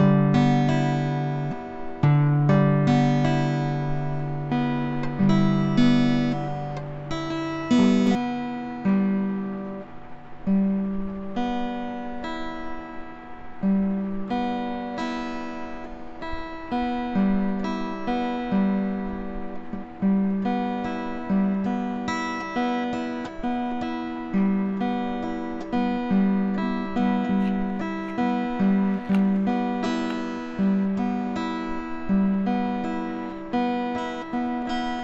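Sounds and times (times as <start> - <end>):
acoustic guitar melody: 0.0 - 35.0.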